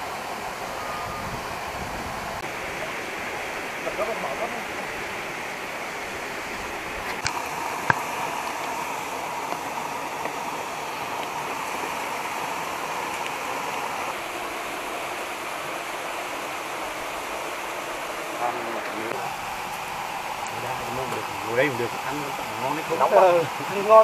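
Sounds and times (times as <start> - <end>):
stream water running over rocks: 0.0 - 24.0.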